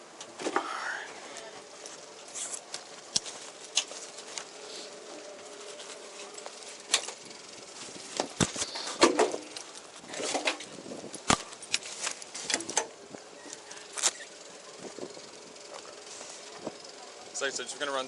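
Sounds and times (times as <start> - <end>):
rustling: 0.4 - 17.2.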